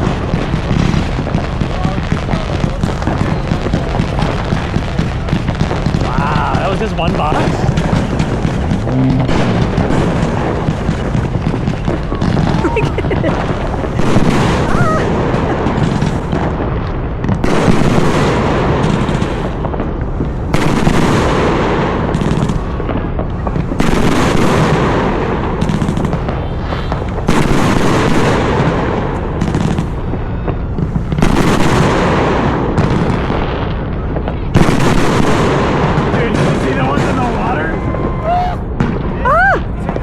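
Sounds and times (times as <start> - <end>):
fireworks bangs and crackle: 0.0 - 40.0.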